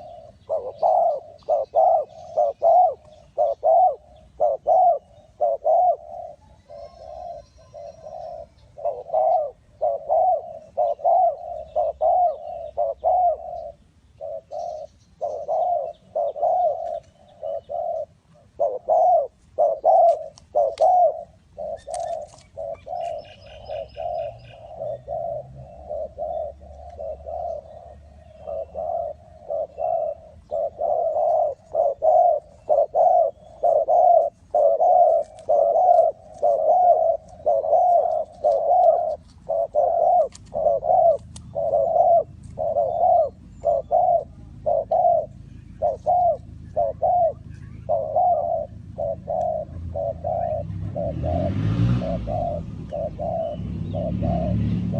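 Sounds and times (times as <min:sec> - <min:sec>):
small bird chirping: 0:00.0 - 0:51.5
dove cooing: 0:00.0 - 0:54.9.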